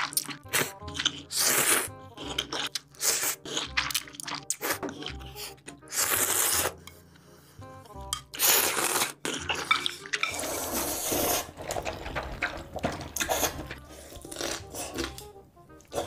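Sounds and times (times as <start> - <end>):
slurping broth from spoon: 0.0 - 7.0, 8.2 - 15.2
noodles slurped and chewed: 0.0 - 7.3, 8.0 - 16.0.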